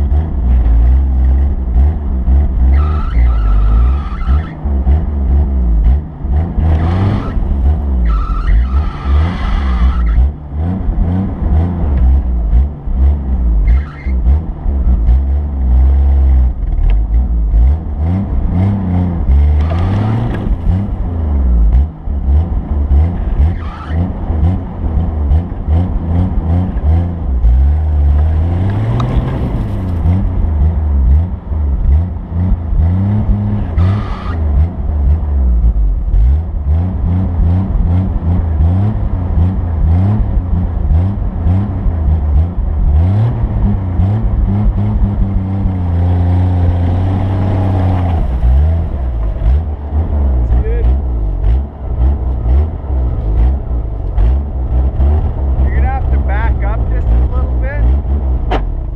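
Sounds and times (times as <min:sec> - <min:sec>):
vehicle engine revving: 0:00.0 - 0:58.9.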